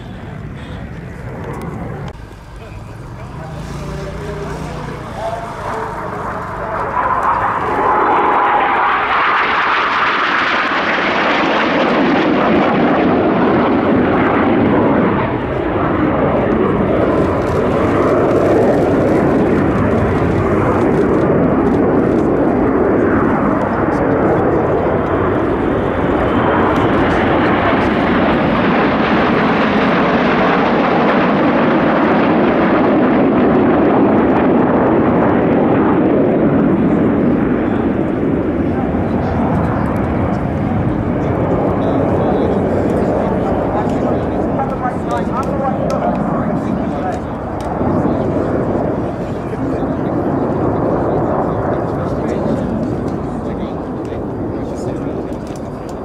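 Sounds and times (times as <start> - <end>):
jet aircraft roaring: 0.0 - 56.0.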